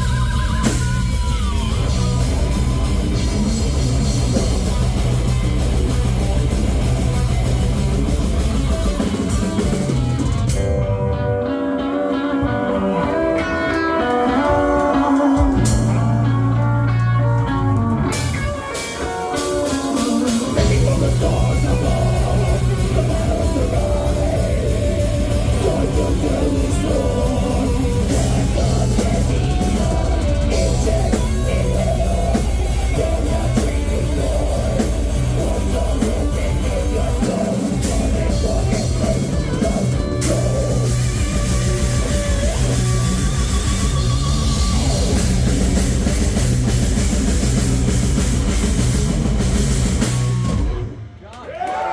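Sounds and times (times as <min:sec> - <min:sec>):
heavy metal band playing: 0:00.0 - 0:51.2
melodic guitar: 0:00.0 - 0:51.2.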